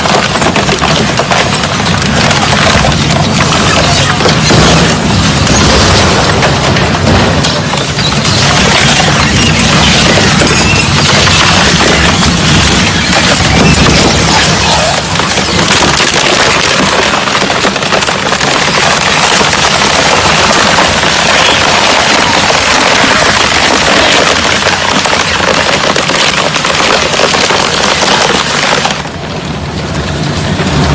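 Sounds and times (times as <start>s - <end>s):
shredder crunching metal and plastic: 0.0s - 30.9s.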